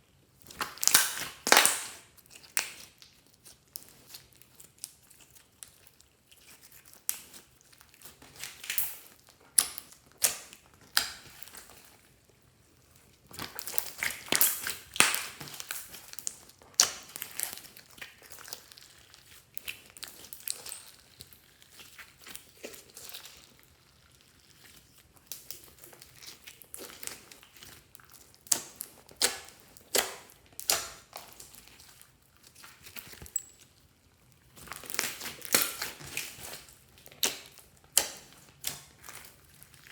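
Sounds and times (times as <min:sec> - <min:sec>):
slime crackling and squelching: 0:00.3 - 0:39.9.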